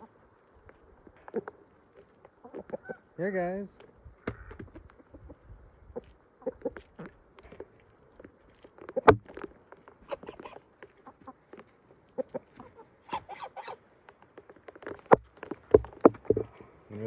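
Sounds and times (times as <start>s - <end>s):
chickens clucking softly: 0.0s - 3.2s, 3.8s - 17.0s
pecking ticks on ground: 0.0s - 17.0s.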